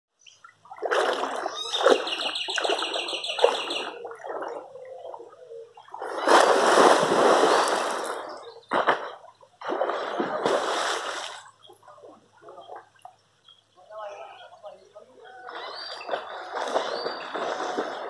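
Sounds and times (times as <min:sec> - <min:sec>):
water splashing in a pool: 0:00.4 - 0:13.2, 0:15.4 - 0:18.0.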